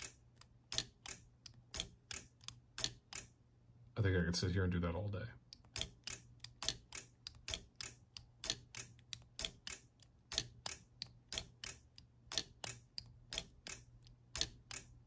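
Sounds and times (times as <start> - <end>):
flip dot and switch clicking: 0.0 - 3.4, 5.5 - 15.0.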